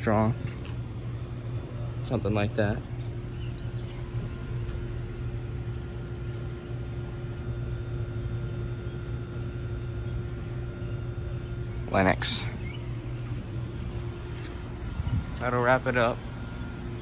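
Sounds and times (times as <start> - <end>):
air conditioning unit humming: 0.0 - 17.0.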